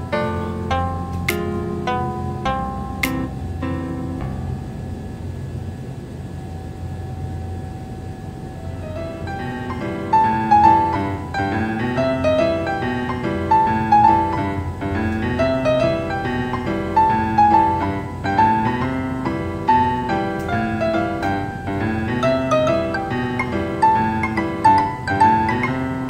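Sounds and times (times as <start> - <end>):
piano music: 0.0 - 5.7, 8.5 - 26.0.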